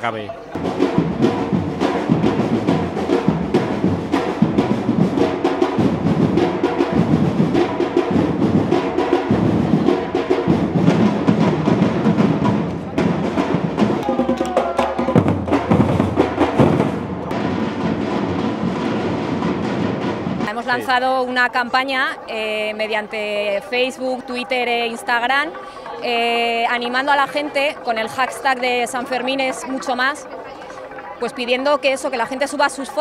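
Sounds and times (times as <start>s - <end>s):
percussion music with clicking drums: 0.0s - 33.0s.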